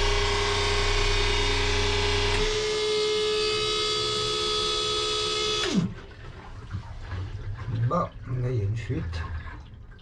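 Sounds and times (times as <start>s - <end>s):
pump whining: 0.0s - 9.4s.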